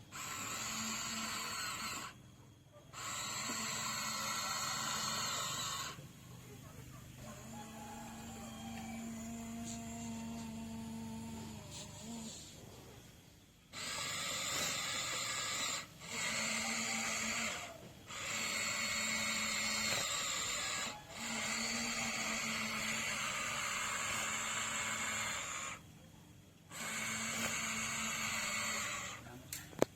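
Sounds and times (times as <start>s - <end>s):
electric motors whining: 0.0s - 25.9s, 26.5s - 29.9s.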